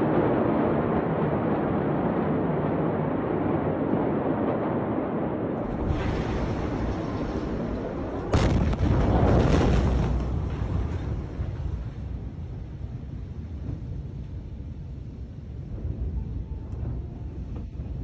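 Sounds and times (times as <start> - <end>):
wind-like rumble: 0.0 - 18.0.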